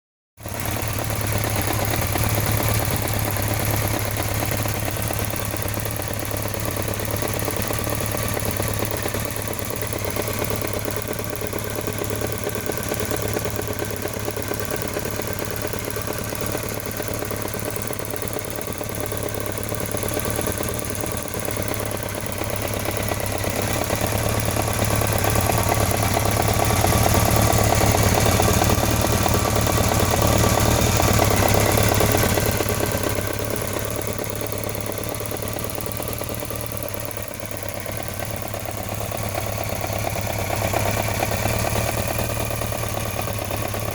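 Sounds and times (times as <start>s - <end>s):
motorcycle engine idling with ticking: 0.4s - 43.9s.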